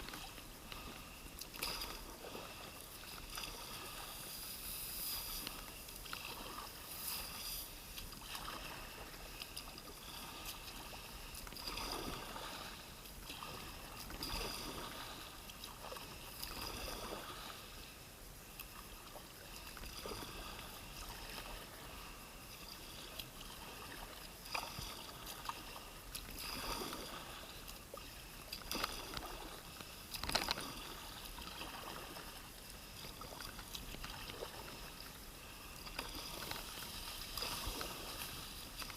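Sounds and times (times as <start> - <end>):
kayak paddle splashing water: 0.0 - 17.7, 22.9 - 38.9.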